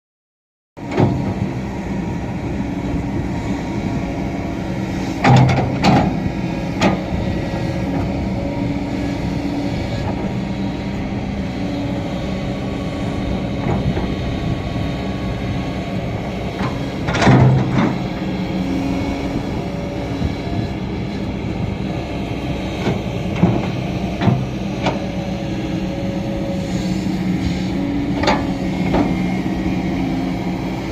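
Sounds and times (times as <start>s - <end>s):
heavy machinery engine running: 0.8s - 30.9s.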